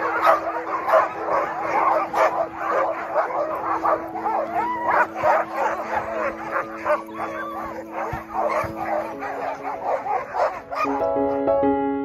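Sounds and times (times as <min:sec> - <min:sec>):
huskies barking yipping and howling: 0:00.0 - 0:11.4.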